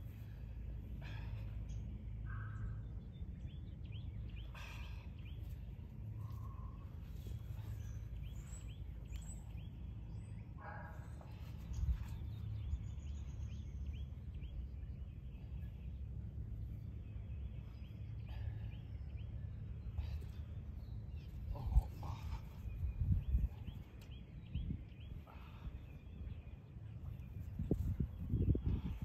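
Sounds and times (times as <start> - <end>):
small birds chirping: 0.0 - 29.0
steady low rumble: 0.0 - 29.0.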